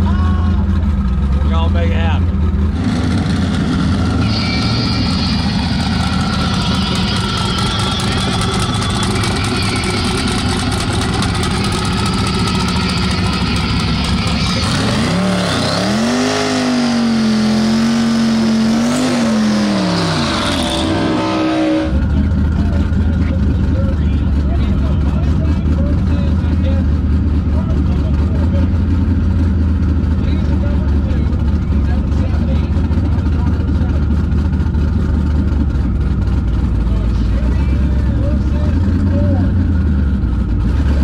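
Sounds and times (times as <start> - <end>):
drag car engine revving: 0.0 - 41.0.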